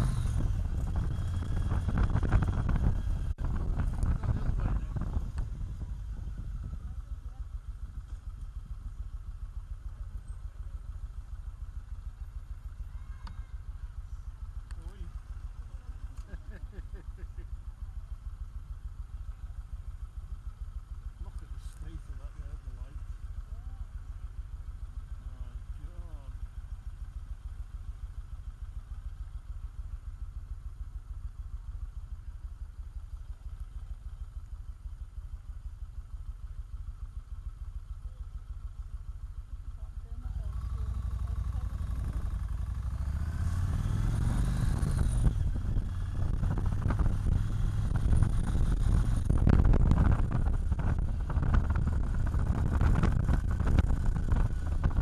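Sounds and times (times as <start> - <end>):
motorcycle engine rumbling: 0.0 - 55.0.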